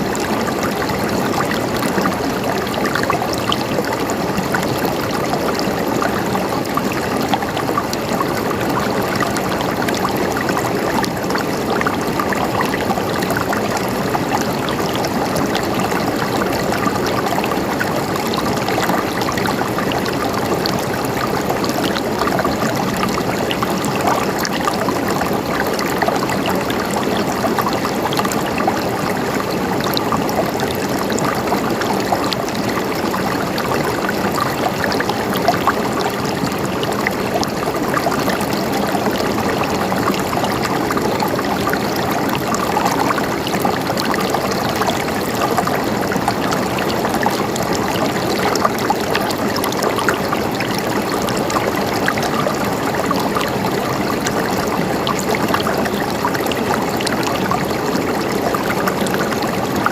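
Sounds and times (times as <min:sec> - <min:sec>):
river flowing over stones: 0:00.0 - 0:59.9.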